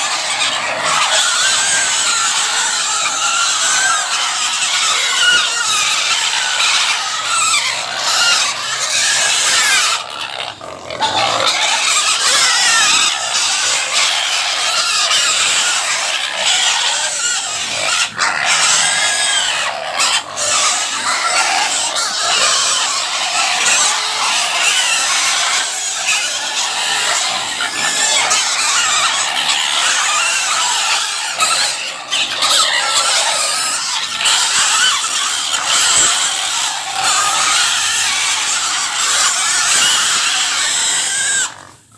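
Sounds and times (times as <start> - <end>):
pig squealing loudly: 0.0 - 41.9.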